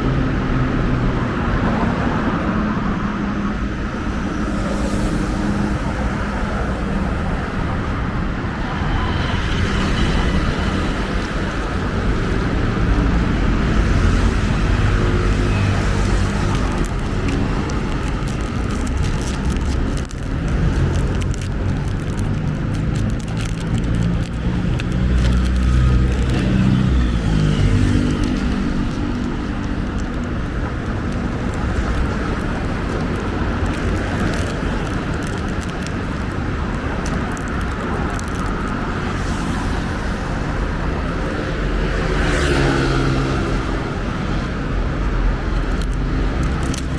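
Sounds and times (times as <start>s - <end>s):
hum of tyres and traffic: 0.0s - 46.9s
vehicles passing: 0.0s - 46.9s.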